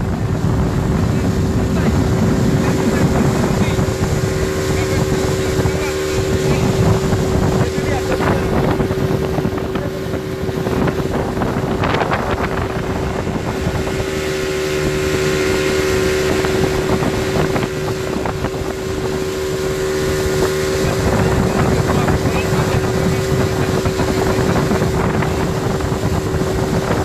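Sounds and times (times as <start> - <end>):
speedboat engine running: 0.0 - 27.0
wind buffeting microphone: 0.0 - 27.0.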